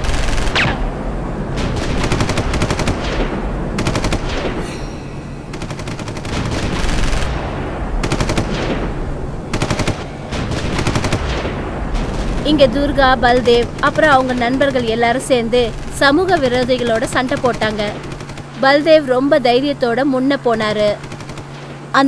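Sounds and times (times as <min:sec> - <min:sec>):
machine-gun fire bursts: 0:00.0 - 0:04.6, 0:05.5 - 0:22.0
continuous low rumble: 0:00.0 - 0:22.0.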